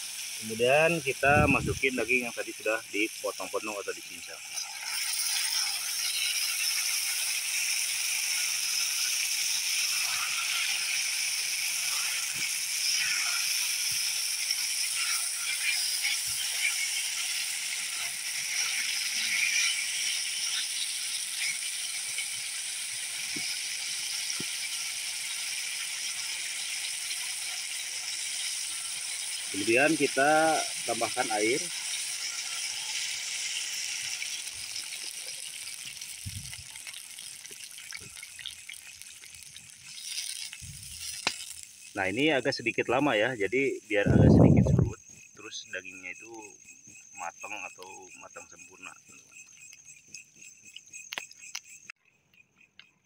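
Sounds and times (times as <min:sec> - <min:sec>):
meat sizzling in oil: 0:00.0 - 0:52.0.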